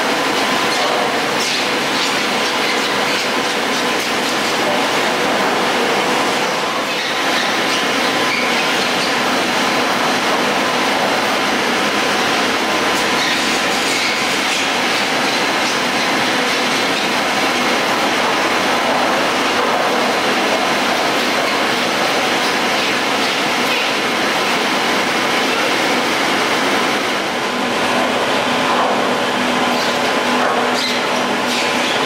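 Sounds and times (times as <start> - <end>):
chairlift mechanical rumble and whir: 0.0 - 32.0.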